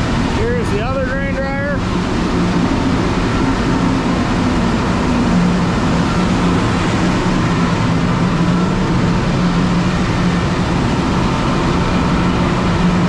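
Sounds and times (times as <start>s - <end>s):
faint high whine: 0.0s - 13.0s
grain dryer running: 0.0s - 13.0s.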